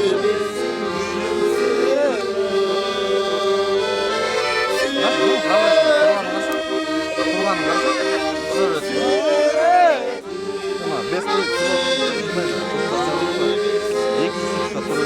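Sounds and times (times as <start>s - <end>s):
accordion playing folk tune: 0.0s - 15.0s.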